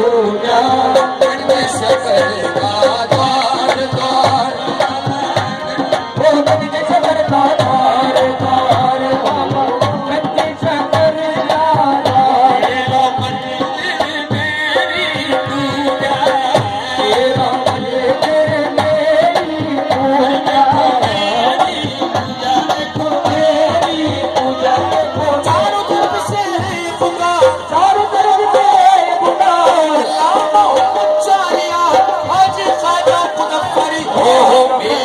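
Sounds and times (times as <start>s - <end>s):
tabla drumming: 0.0s - 35.0s.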